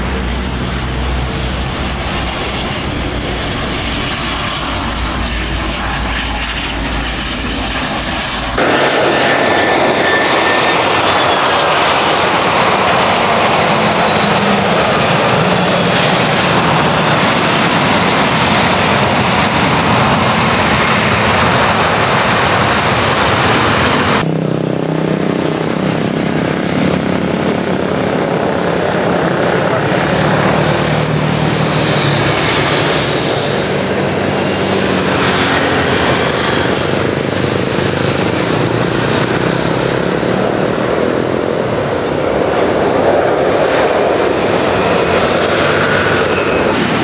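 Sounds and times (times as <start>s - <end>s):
jet engines running: 0.0s - 47.0s
jet on approach: 0.0s - 47.0s
jet passing with falling whine: 0.0s - 47.0s.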